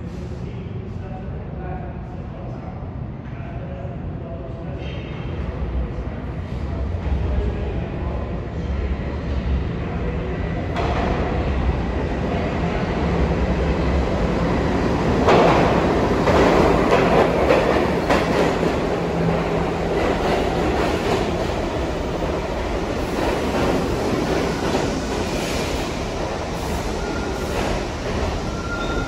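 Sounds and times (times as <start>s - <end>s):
subway train rumble: 0.0s - 29.0s.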